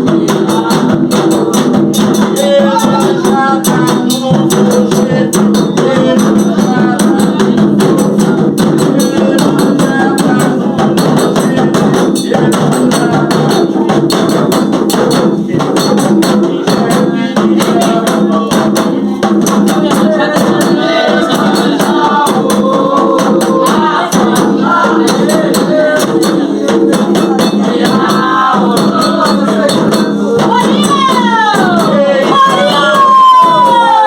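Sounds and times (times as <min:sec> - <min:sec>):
devotional singing: 0:00.0 - 0:14.4, 0:15.1 - 0:34.0
fast hand percussion with jingles: 0:00.0 - 0:34.0.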